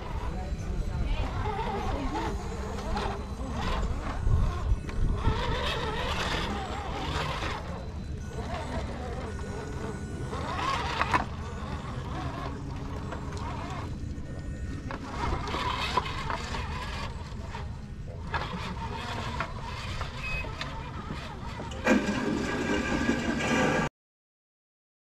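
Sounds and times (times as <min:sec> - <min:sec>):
electric motor and gear whine: 0:00.0 - 0:23.9.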